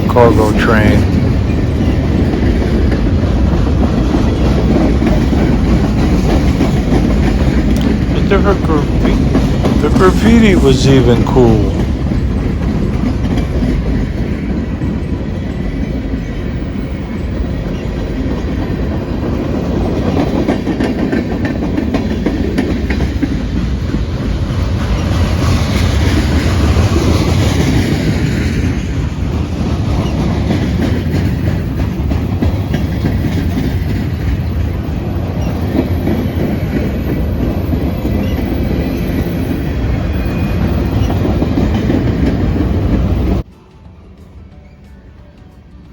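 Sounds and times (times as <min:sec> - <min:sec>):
freight train wheels rumbling: 0:00.0 - 0:45.9
clickety-clack over rail joints: 0:01.0 - 0:10.6, 0:11.6 - 0:45.9.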